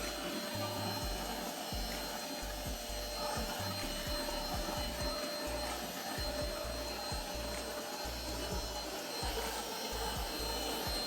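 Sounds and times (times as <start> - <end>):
background music with bass: 0.0 - 11.0
stick vacuum running: 0.0 - 11.0.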